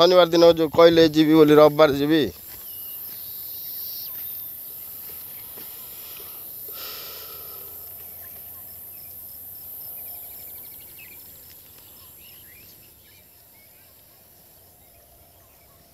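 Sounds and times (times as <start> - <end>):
insects shrilling: 0.0 - 15.9
bird chirps: 2.5 - 15.9.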